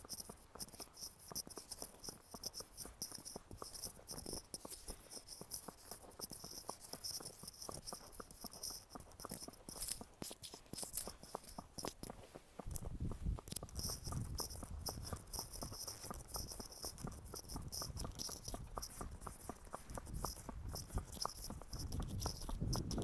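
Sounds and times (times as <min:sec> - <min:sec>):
bridle and bit rattling: 0:00.0 - 0:12.1, 0:12.7 - 0:23.0
hoof clops on pavement: 0:00.0 - 0:23.0.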